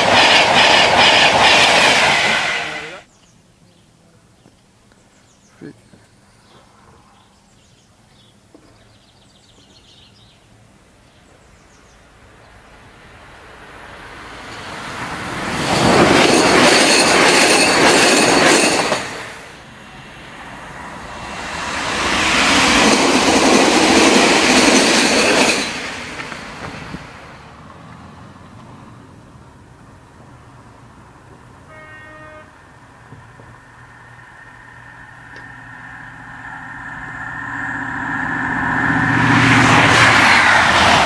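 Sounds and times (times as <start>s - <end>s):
high-speed trains passing: 0.0s - 3.1s, 10.5s - 41.0s.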